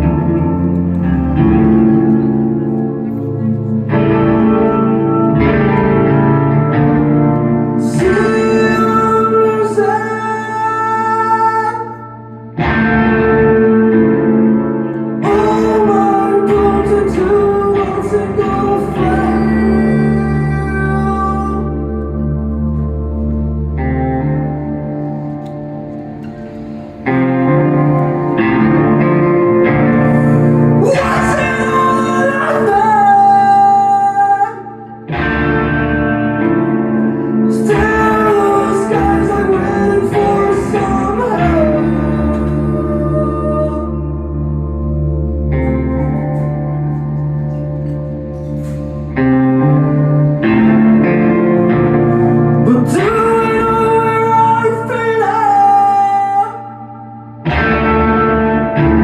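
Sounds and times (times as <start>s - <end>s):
live rock band playing: 0.0s - 11.4s, 12.5s - 56.7s, 57.4s - 59.0s.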